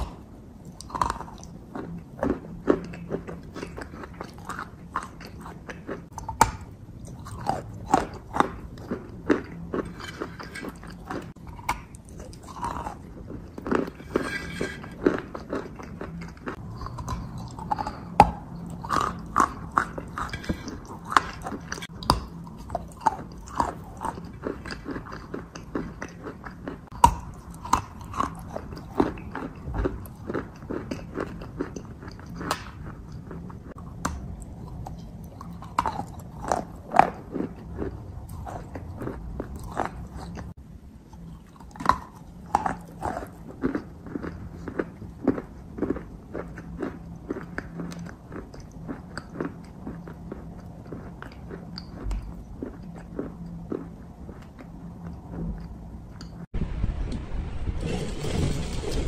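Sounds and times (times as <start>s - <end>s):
chewing with mouth clicks: 0.0s - 56.5s
crunch while chewing: 0.0s - 56.5s.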